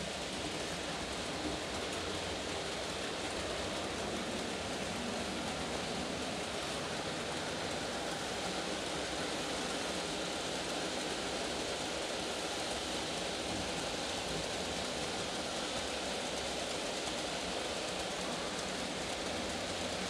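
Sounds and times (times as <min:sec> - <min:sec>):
model train wheels on rails: 0:00.0 - 0:20.0.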